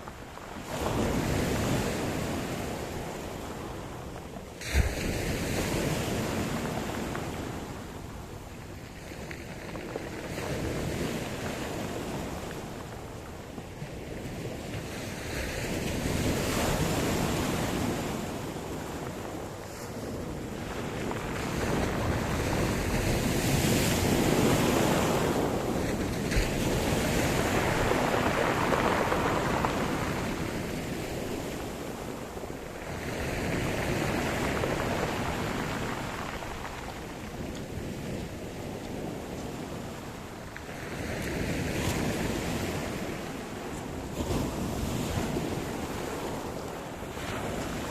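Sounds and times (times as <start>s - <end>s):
waves breaking: 0.0s - 47.9s.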